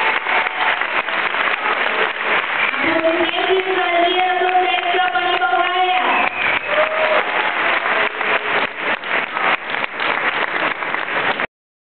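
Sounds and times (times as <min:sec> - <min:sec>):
audience cheering: 0:00.0 - 0:11.4
audience applauding: 0:00.0 - 0:11.5.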